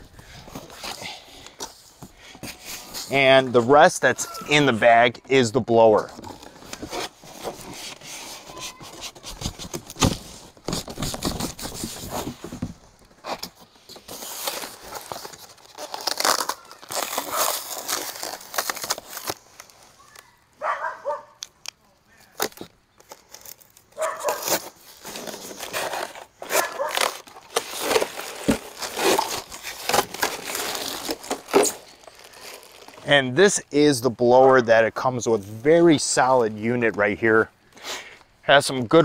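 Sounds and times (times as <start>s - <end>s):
cardboard and foam rustling: 0.0s - 20.4s, 22.1s - 37.4s.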